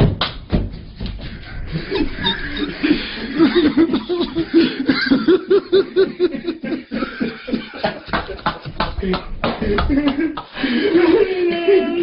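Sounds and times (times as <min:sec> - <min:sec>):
person laughing hard: 0:01.4 - 0:12.0.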